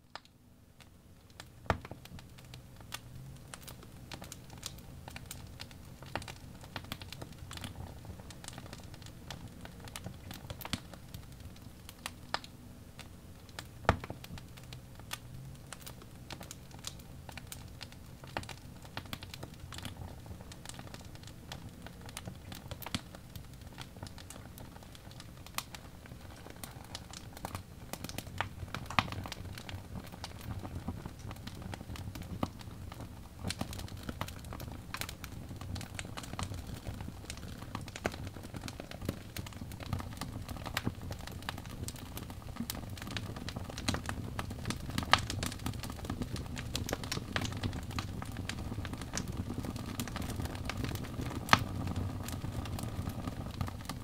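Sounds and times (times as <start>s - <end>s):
fire crackling and popping: 0.0s - 54.0s
low rumble of flames: 1.2s - 54.0s.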